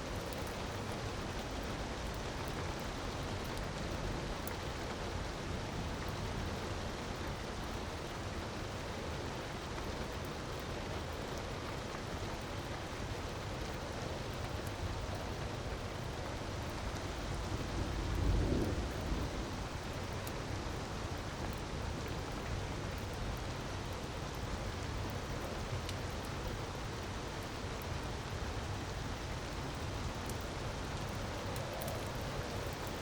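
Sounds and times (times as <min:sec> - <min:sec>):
wood fire crackling: 0:00.1 - 0:33.0.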